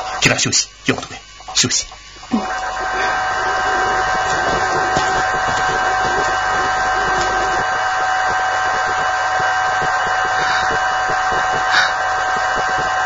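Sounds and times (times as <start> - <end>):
constant high whine: 0.0 - 13.0
hum and hiss: 0.0 - 13.0.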